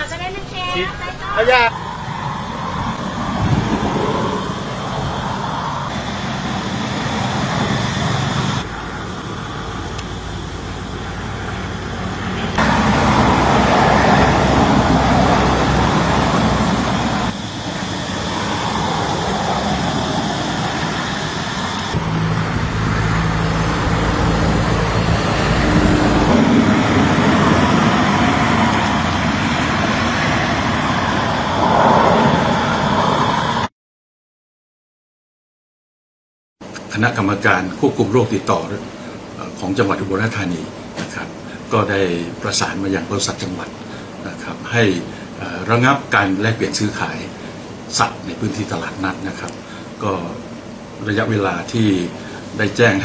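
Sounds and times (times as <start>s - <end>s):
car engine and road noise: 0.0s - 33.7s, 36.6s - 53.0s.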